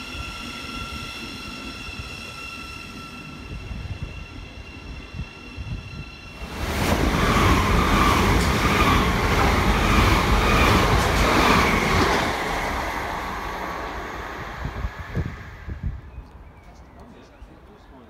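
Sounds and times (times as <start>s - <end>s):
faint train whine: 0.0s - 18.0s
train passing on rails: 0.0s - 18.0s.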